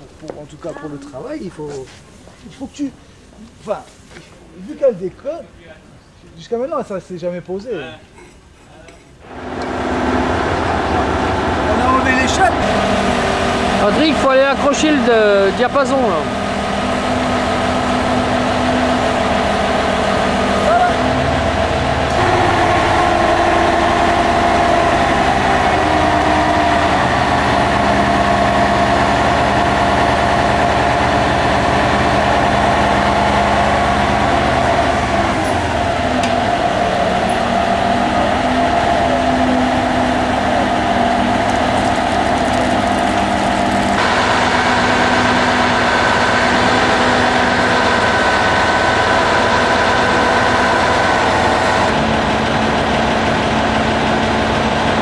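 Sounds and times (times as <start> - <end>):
diesel engine running: 9.2 - 55.0.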